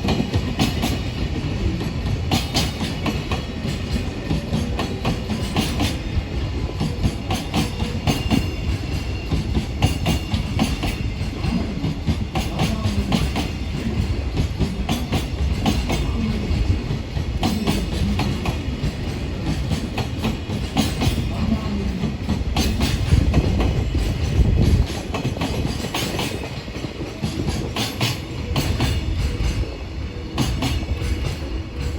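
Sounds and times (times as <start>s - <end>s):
freight train wagons rumbling: 0.0s - 31.9s
wheels clacking over rail joints: 0.0s - 31.9s.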